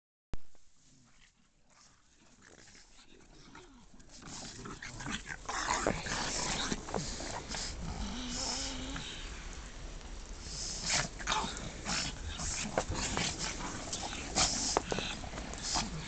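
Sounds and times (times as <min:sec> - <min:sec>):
dogs scuffling and play-fighting: 0:00.9 - 0:08.6, 0:10.5 - 0:16.0.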